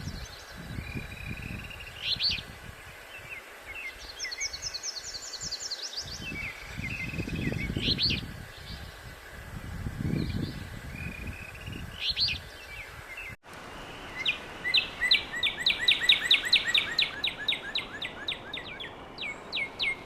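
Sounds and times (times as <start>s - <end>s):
songbird singing: 0.0s - 20.0s
wind rumbling on microphone: 0.0s - 20.0s.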